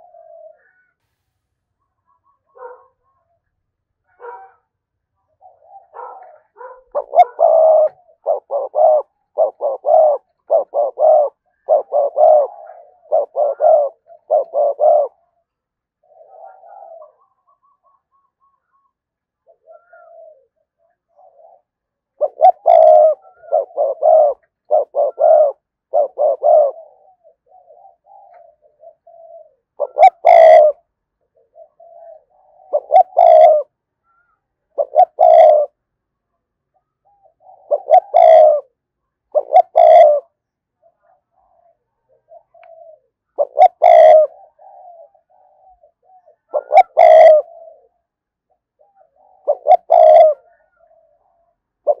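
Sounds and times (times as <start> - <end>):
dove cooing: 0.0 - 1.0, 1.9 - 3.4, 4.0 - 35.8, 36.8 - 52.0.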